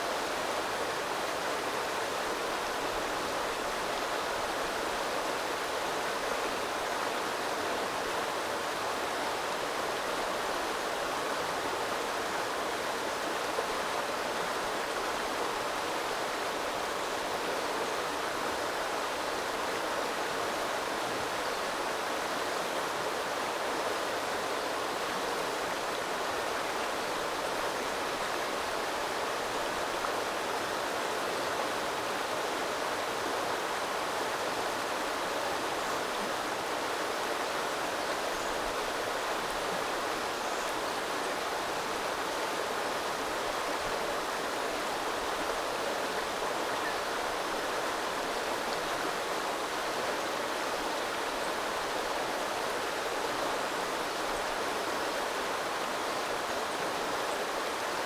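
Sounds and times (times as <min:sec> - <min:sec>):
river water rushing and babbling: 0:00.0 - 0:58.0.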